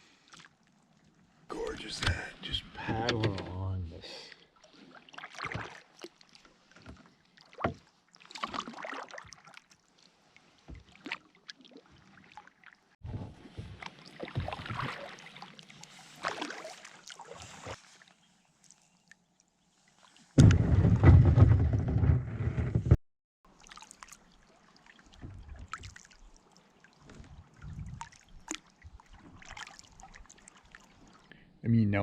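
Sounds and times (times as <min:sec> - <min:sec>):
paddle splashing water: 0:04.2 - 0:22.8, 0:23.5 - 0:31.3.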